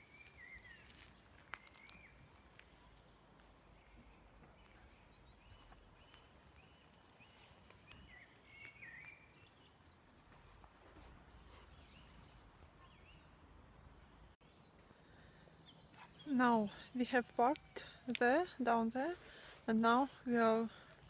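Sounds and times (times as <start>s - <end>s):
faint songbird song: 0.0s - 21.0s.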